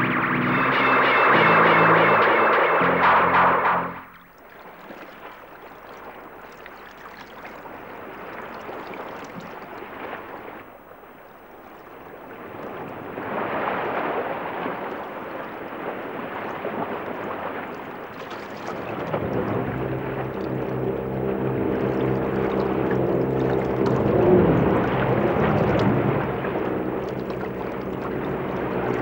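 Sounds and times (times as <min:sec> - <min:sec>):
waves washing onto shore: 0:04.2 - 0:29.0.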